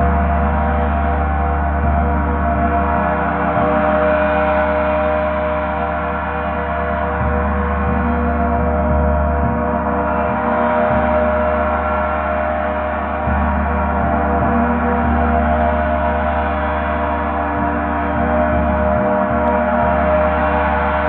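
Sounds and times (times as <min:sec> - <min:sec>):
gong resonating: 0:00.0 - 0:21.0.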